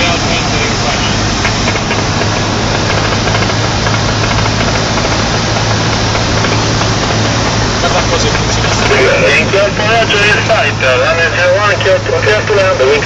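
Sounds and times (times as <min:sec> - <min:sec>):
plane engine and propeller drone: 0:00.0 - 0:13.0.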